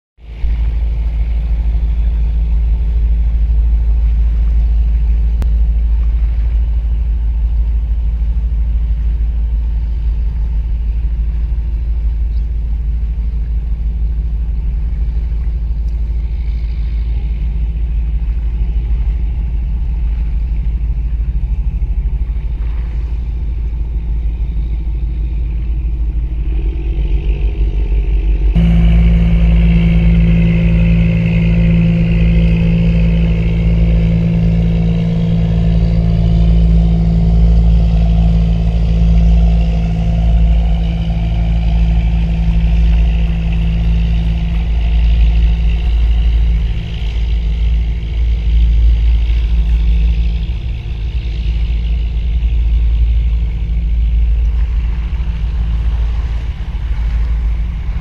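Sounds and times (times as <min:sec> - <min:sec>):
boat engine rumble: 0:00.2 - 0:58.0
low tone with overtones: 0:00.2 - 0:58.0
water noise: 0:00.2 - 0:58.0
wind: 0:00.2 - 0:58.0.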